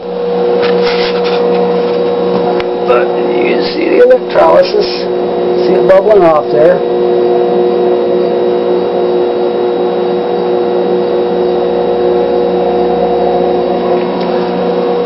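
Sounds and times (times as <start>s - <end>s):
battery charger humming: 0.0s - 15.0s.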